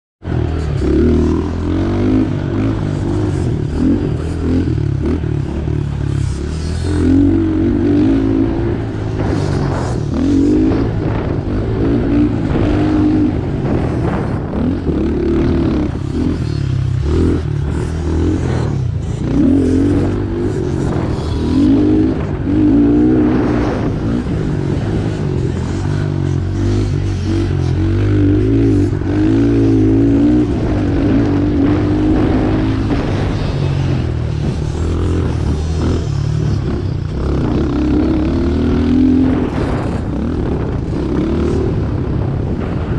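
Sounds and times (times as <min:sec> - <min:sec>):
dirt bike engine revving: 0:00.2 - 0:42.9.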